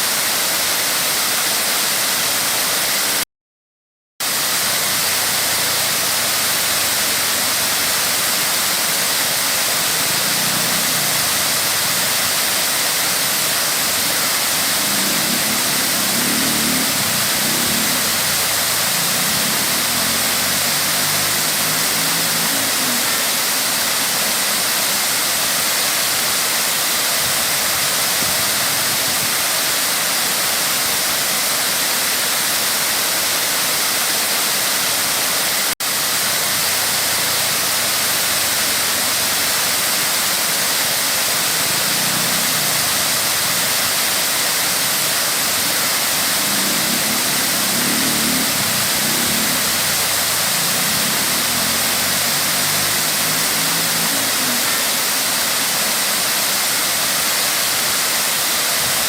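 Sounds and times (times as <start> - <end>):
waterfall rushing: 0.0 - 3.2, 4.2 - 59.0.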